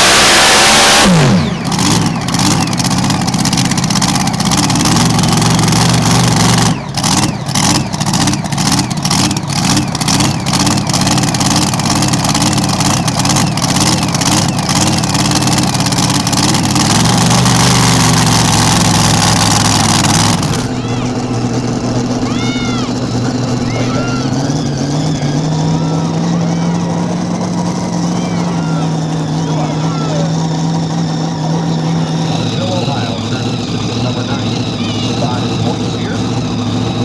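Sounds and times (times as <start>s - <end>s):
exhaust popping: 0.0s - 37.0s
tractor engine revving and idling: 0.0s - 37.0s.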